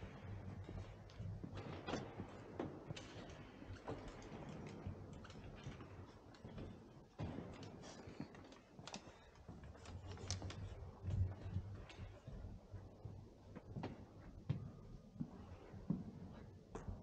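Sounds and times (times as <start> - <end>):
footsteps and small movements: 0.0 - 17.0.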